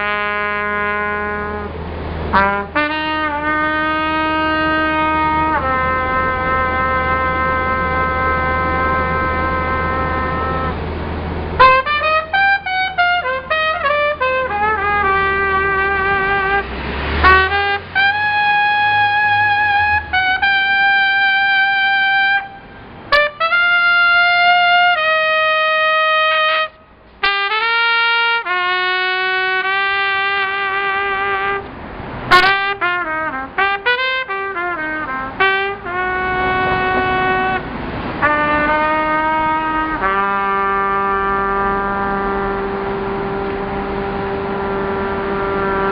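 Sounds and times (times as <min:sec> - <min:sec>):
horn solo melody: 0:00.0 - 0:10.8, 0:11.6 - 0:31.7, 0:32.3 - 0:45.9.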